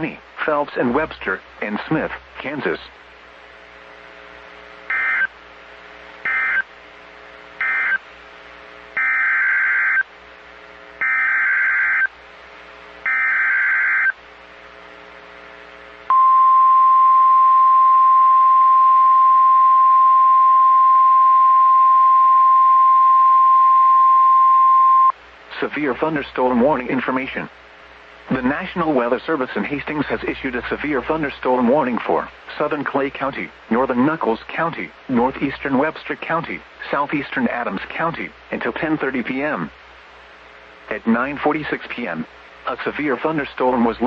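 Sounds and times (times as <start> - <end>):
faint hum: 0.0 - 44.0.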